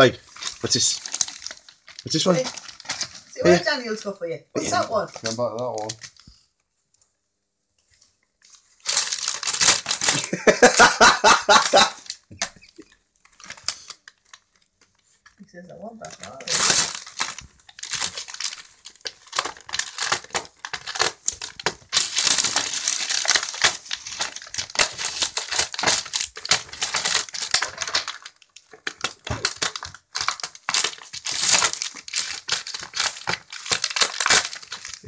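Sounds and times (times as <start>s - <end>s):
wrapping paper and plastic crinkling: 0.0s - 3.9s, 4.6s - 6.5s, 7.8s - 35.0s.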